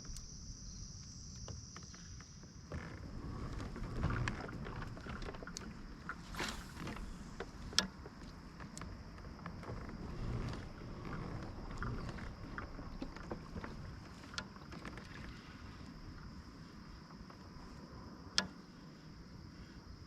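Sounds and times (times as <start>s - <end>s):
gear knocking against boat: 0.0s - 18.7s
water around a kayak: 0.0s - 20.0s.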